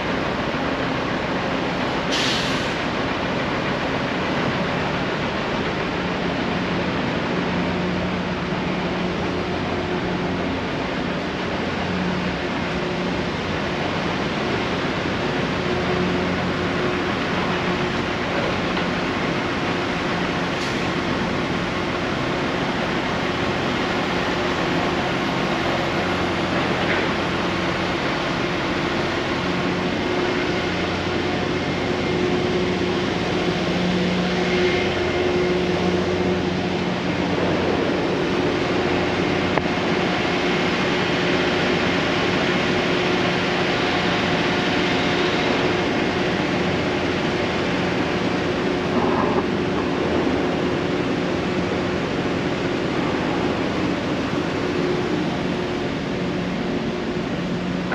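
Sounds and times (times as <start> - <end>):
low machine hum: 2.9 - 57.9.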